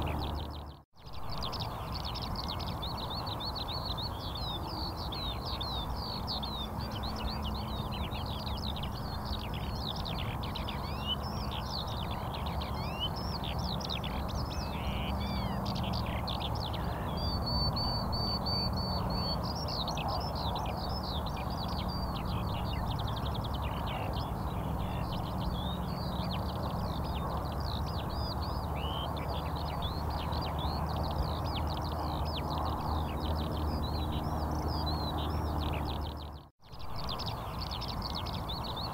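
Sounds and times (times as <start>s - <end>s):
low steady hum: 0.0s - 38.9s
small birds chirping: 0.0s - 38.9s.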